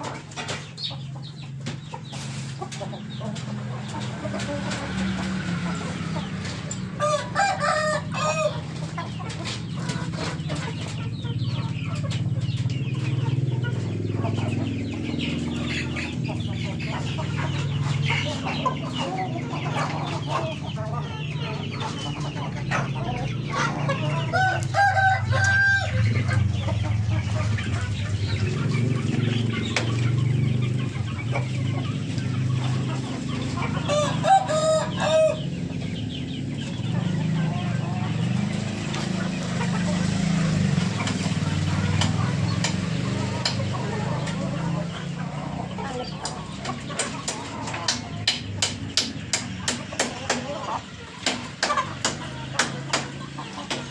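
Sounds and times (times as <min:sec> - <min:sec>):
chickens clucking: 0:00.0 - 0:53.9
roosters crowing: 0:00.0 - 0:53.9.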